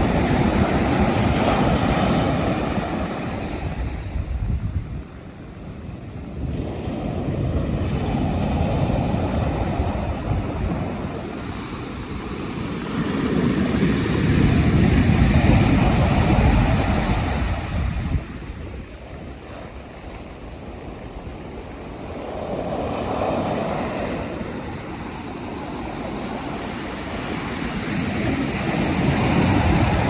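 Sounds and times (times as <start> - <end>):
waves breaking on shore: 0.0 - 30.0.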